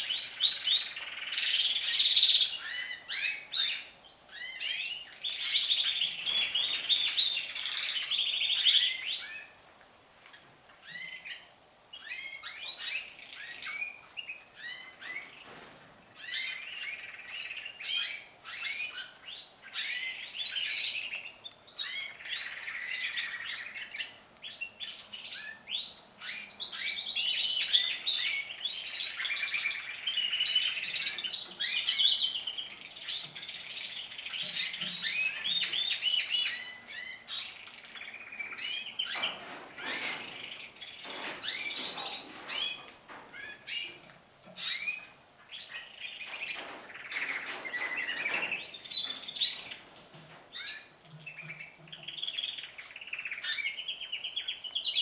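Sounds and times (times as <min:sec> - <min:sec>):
canaries singing trills: 0:00.0 - 0:09.6, 0:10.3 - 0:55.0.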